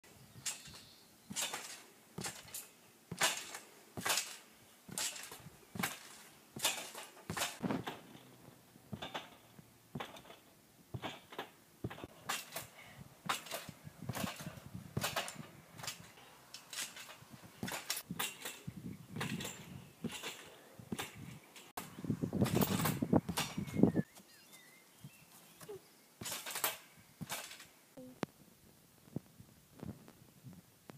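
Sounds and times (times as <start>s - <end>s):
trampoline springs creaking and clanking: 0.3s - 24.1s, 25.3s - 27.8s.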